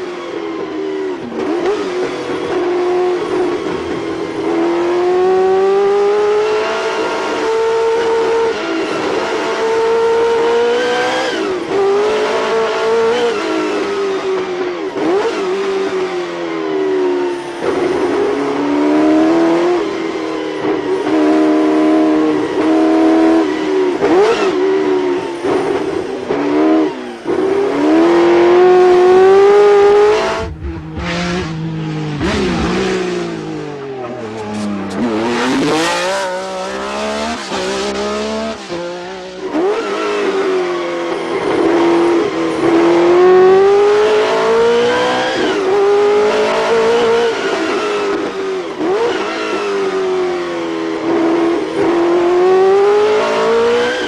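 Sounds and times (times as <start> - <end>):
race car engines at full throttle: 0.0 - 54.0.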